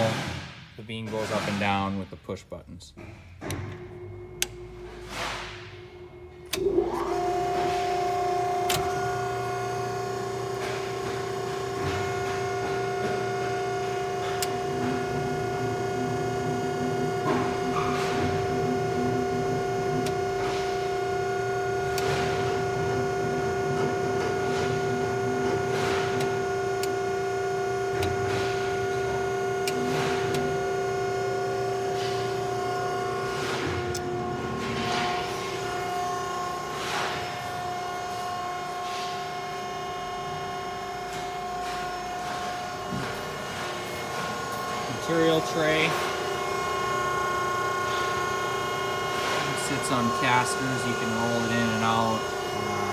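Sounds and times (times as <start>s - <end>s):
machine hum with held tones: 3.0s - 52.9s.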